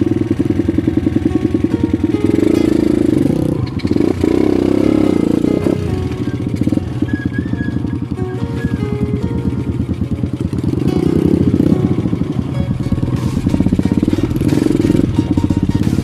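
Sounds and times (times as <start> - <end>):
background music: 0.0 - 16.0
dirt bike engine revving: 0.0 - 16.0.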